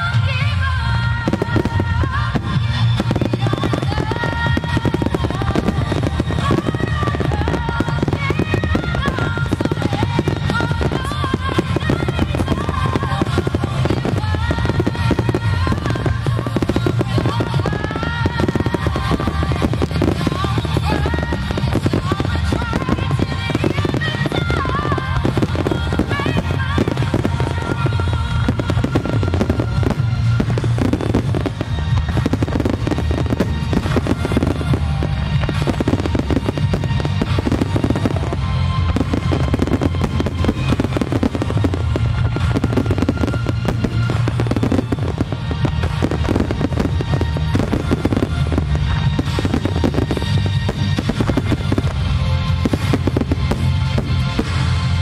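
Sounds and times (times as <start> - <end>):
fireworks bursts and booms: 0.0 - 55.0
music: 0.0 - 55.0.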